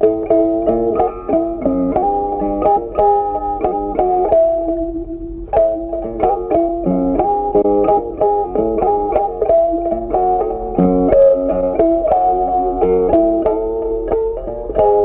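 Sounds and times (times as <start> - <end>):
plucked guitar tune: 0.0 - 15.0.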